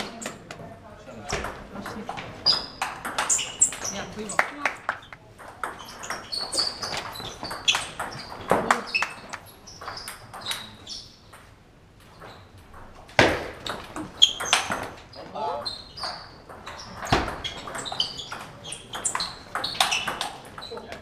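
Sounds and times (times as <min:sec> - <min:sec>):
table tennis balls clicking: 0:01.3 - 0:21.0.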